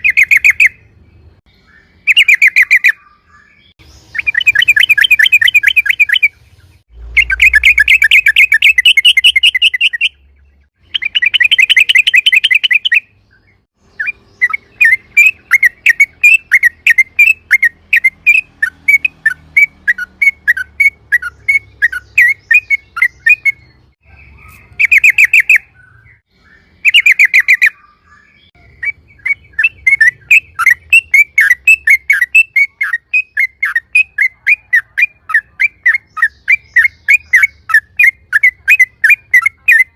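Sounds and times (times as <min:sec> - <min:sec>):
bulbul singing trills: 0:00.0 - 0:39.9.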